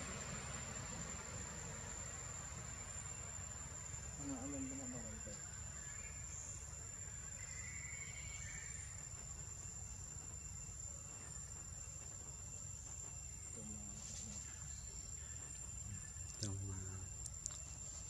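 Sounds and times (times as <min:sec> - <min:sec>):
faint insect or bird sound: 0:00.0 - 0:18.0
insects trilling: 0:00.0 - 0:18.0.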